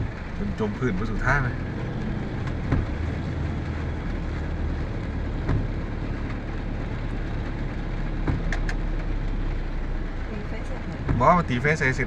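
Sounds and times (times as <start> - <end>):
heavy rain falling: 0.0 - 12.0
vehicle engine humming: 0.0 - 12.0.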